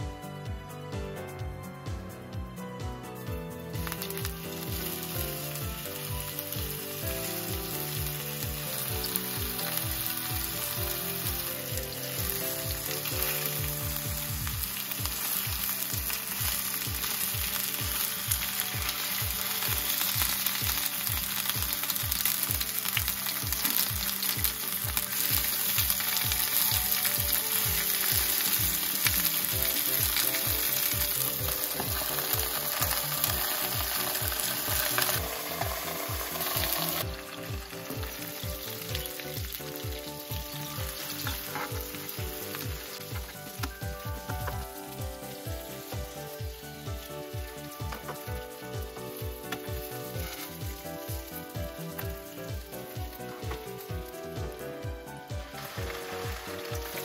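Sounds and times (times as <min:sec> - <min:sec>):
background music with steady beat: 0:00.0 - 0:57.0
food sizzling in hot oil: 0:03.1 - 0:57.0.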